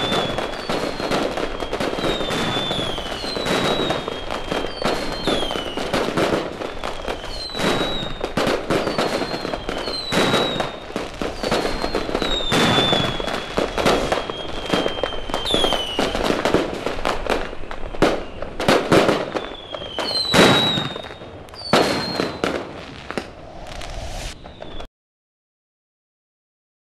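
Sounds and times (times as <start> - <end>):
fireworks bangs and crackling: 0.0 - 24.9
fireworks high whistle: 0.0 - 24.9.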